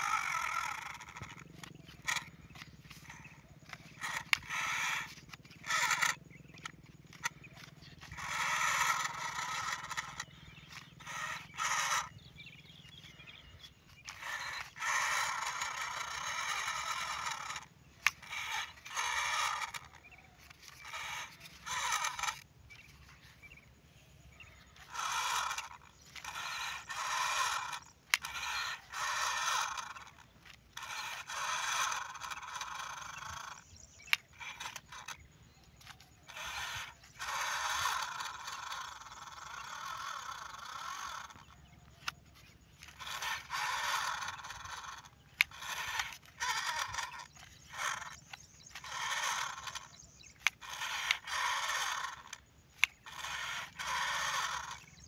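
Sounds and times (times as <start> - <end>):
toy motors whirring: 0.0 - 55.0.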